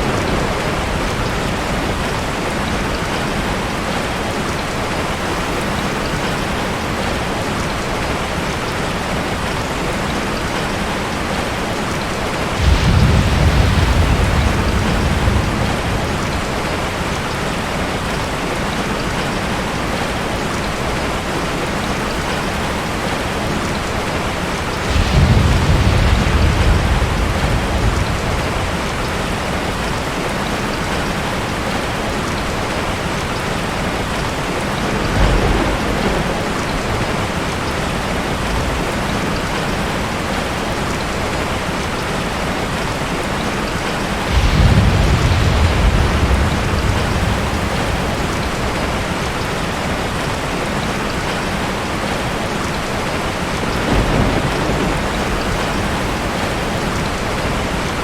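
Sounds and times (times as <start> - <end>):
thunder rumbles: 0.0 - 19.3, 20.8 - 51.2, 52.8 - 58.0
heavy rain: 0.0 - 58.0.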